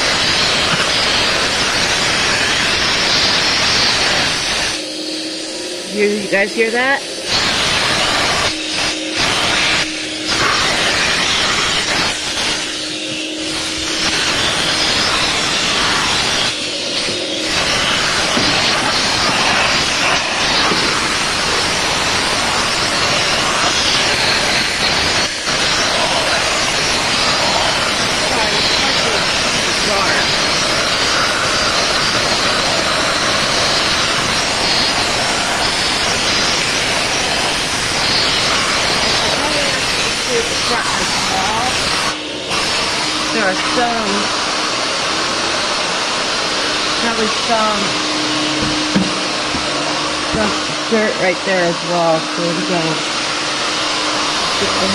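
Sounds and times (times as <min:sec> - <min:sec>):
vacuum hose sucking air: 0:00.0 - 0:54.9.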